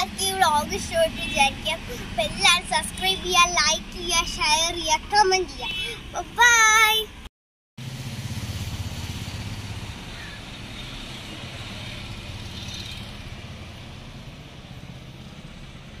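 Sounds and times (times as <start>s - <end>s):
motor vehicle engine running: 0.0s - 7.2s, 7.8s - 16.0s.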